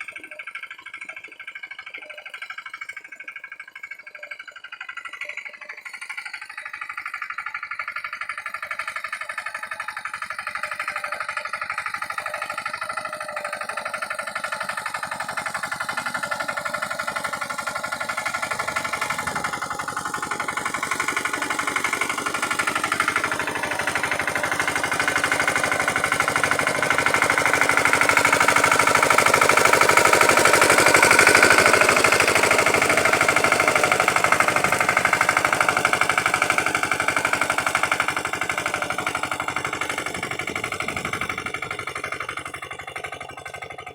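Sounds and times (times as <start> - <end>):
tractor engine knocking: 0.0 - 43.9.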